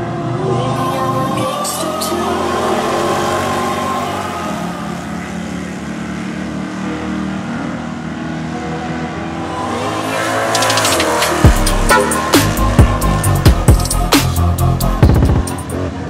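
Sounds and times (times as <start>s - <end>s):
racing car engines at full throttle: 0.0s - 16.0s.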